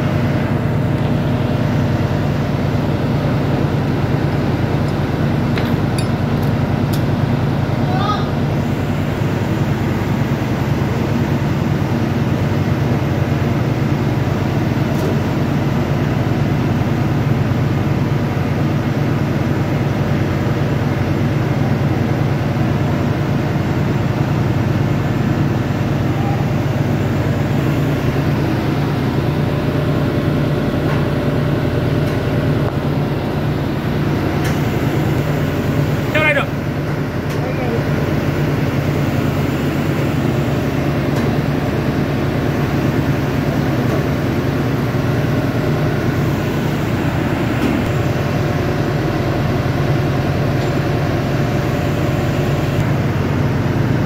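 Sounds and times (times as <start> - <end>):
engine room machinery drone: 0.0 - 54.0.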